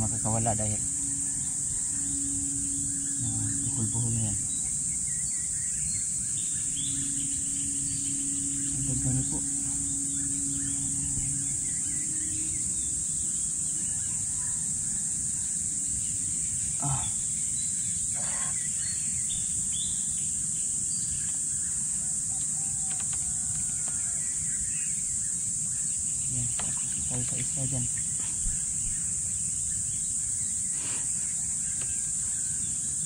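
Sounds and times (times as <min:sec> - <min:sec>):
bird chirps: 0:00.0 - 0:33.0
insects chorus: 0:00.0 - 0:33.0.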